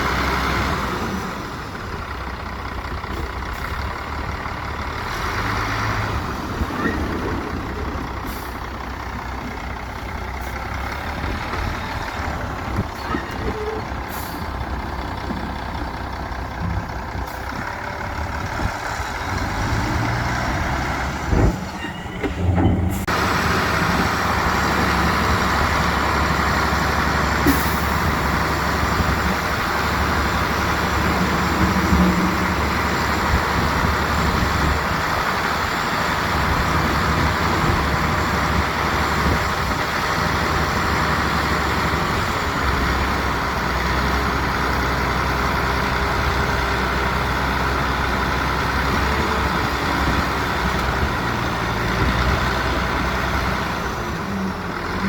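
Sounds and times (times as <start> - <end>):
heavy diesel engines running: 0.0 - 55.0.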